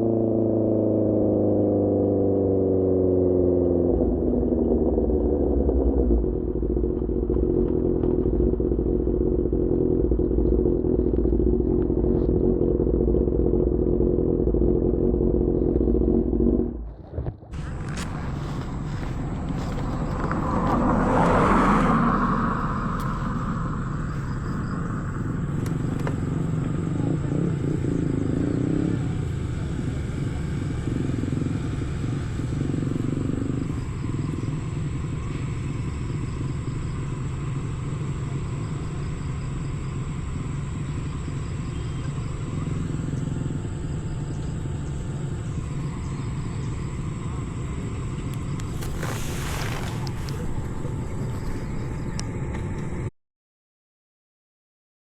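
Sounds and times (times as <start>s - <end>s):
motorcycle engine rumbling: 0.0s - 53.1s.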